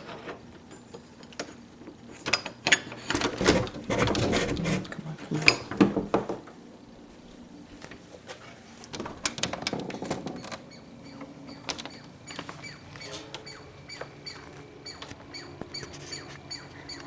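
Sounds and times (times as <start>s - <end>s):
songbird chirping: 1.0s - 17.0s.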